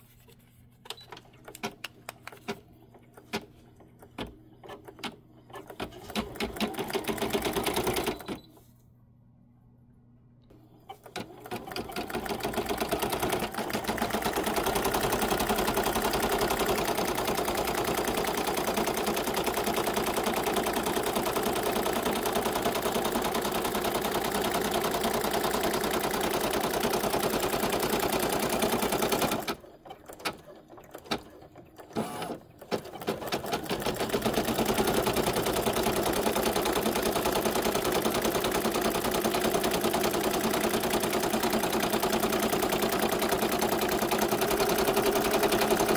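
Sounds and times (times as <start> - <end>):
embroidery machine stitching: 3.2 - 8.4, 10.9 - 45.9.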